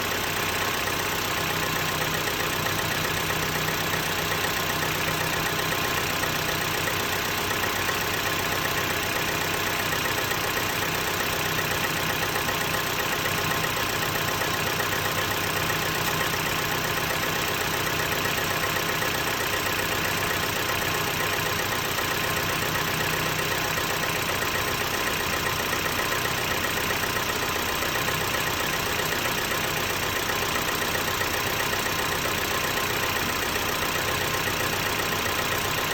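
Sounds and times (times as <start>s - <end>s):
car engine idling with a knock: 0.2s - 35.9s.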